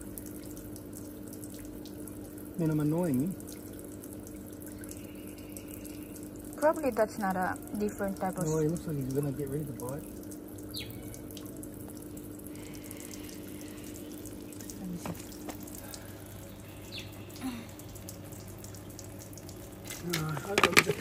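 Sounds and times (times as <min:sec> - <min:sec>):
running water trickling: 0:00.0 - 0:21.0.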